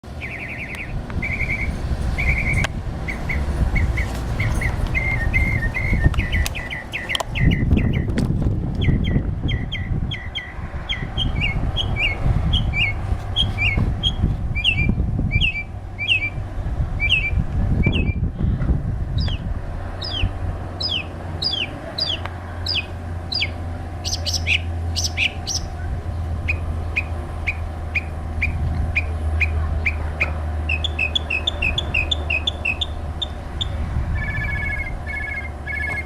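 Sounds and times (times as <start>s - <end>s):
songbird singing whistled notes: 0.2s - 8.1s, 8.8s - 16.4s, 17.0s - 18.2s, 20.0s - 25.8s, 26.5s - 36.0s.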